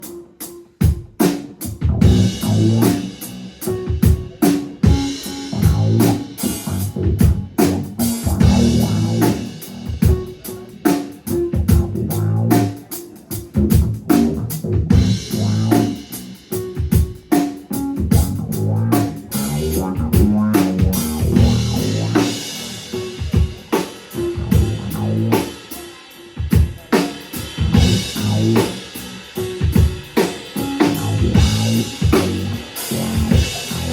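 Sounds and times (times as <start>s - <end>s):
drum kit groove: 0.0s - 33.9s
bass line: 1.7s - 25.6s, 27.4s - 33.9s.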